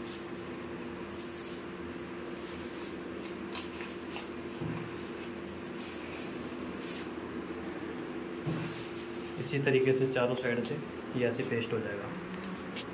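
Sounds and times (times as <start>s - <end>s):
steady hum: 0.0s - 12.9s.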